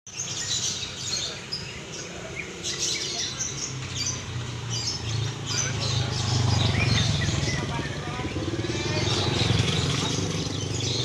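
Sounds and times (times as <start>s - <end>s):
birds chirping and whistling: 0.1s - 11.0s.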